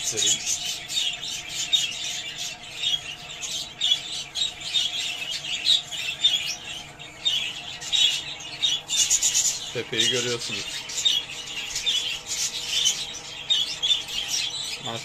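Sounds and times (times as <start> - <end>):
budgerigars chirping and squawking: 0.0 - 15.0.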